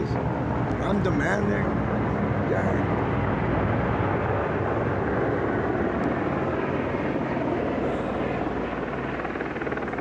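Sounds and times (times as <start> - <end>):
helicopter flying over: 0.0 - 10.0.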